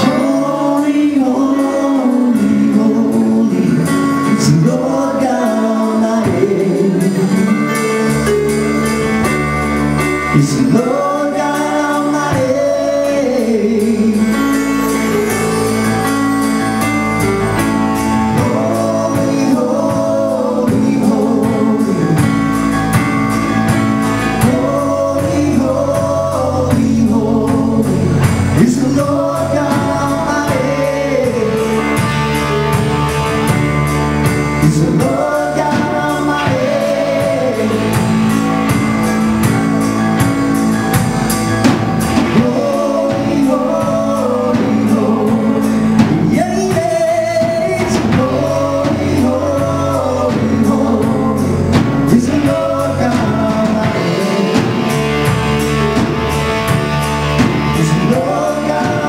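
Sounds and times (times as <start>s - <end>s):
band with drums and guitar: 0.0s - 59.0s
lead singer's voice: 0.0s - 59.0s.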